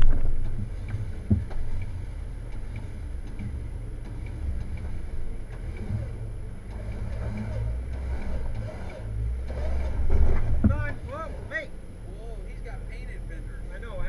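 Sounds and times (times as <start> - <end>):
car engine running low: 0.0 - 14.0.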